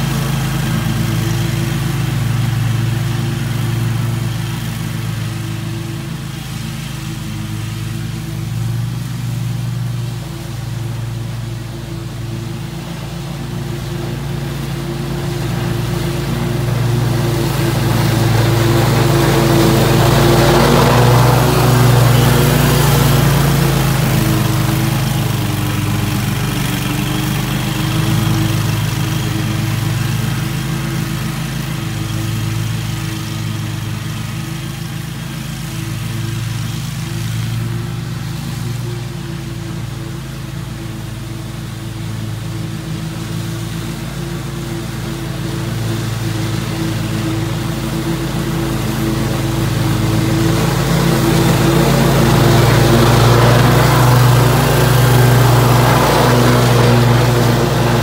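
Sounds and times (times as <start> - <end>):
lawn mower cutting grass: 0.0 - 58.0.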